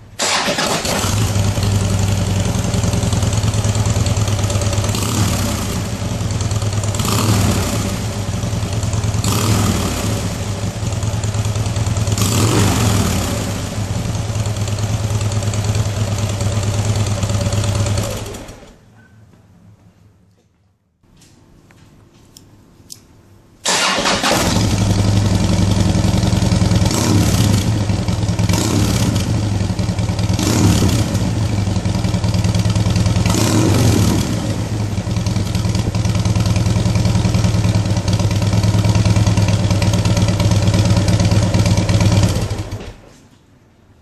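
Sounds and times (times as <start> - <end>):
motorcycle engine idling and revving: 0.2 - 18.8, 23.7 - 42.9.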